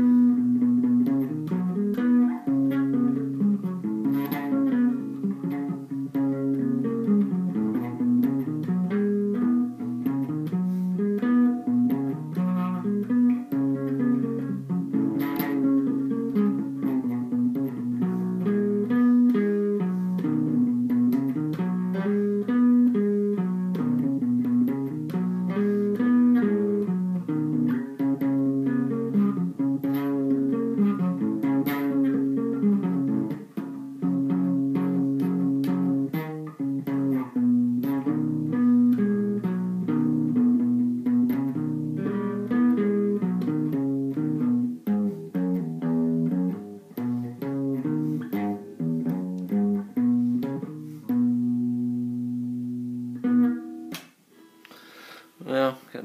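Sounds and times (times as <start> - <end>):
solo electric guitar: 0.0 - 56.0.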